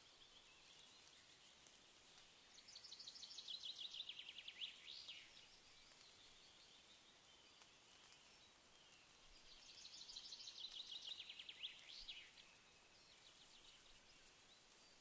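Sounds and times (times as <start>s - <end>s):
songbird singing faintly: 0.0s - 15.0s
steady faint hiss: 0.0s - 15.0s.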